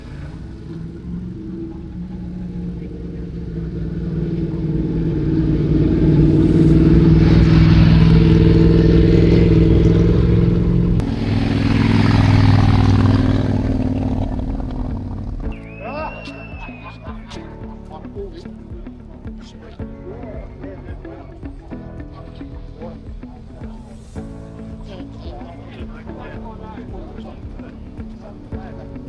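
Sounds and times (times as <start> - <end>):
motorcycle engine passing: 0.0 - 29.0.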